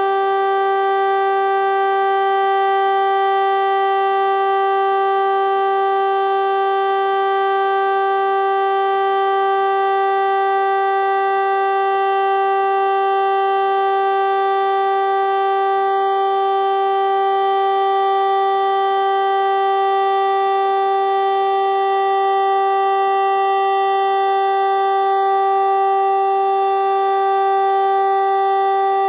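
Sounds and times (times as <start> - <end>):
motor siren steady tone: 0.0 - 29.0.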